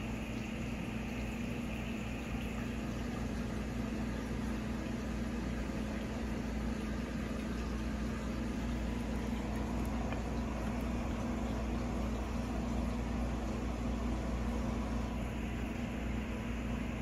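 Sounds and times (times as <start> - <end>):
aquarium equipment hum: 0.0 - 17.0.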